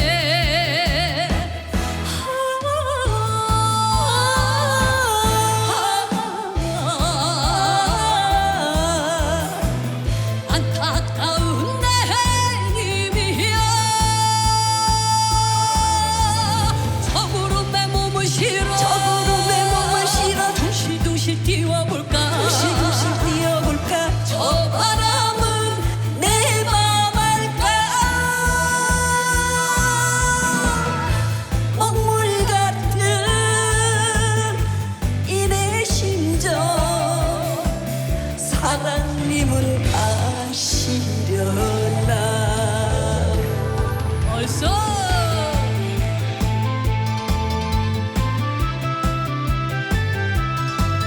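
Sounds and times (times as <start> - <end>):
steady drum beat: 0.0 - 2.2, 2.9 - 51.0
ballad duet with band: 0.0 - 51.0.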